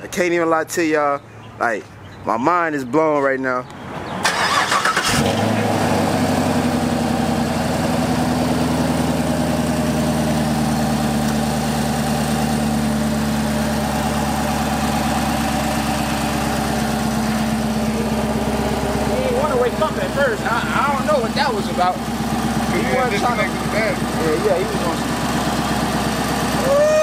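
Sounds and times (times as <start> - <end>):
car engine starting and idling: 4.1 - 27.0.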